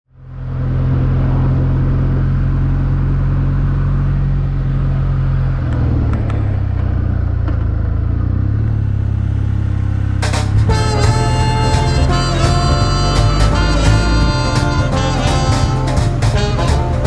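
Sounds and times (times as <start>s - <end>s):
wind and road noise: 0.1s - 17.0s
motorcycle engine running: 0.2s - 17.0s.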